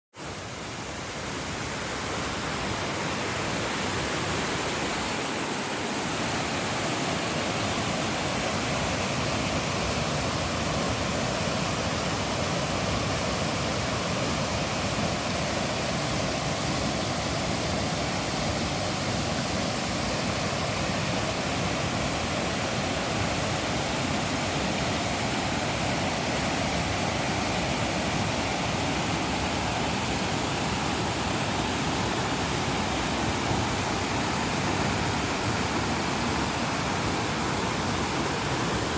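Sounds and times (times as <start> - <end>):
rushing water: 0.1 - 38.9.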